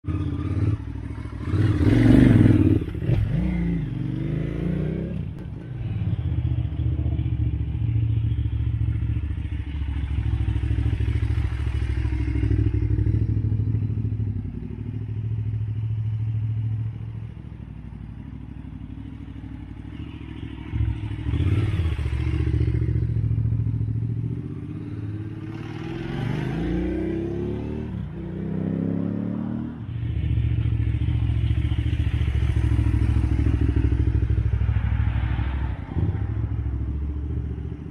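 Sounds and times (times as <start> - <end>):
motorcycle engine revving: 0.0 - 16.9, 18.6 - 37.9.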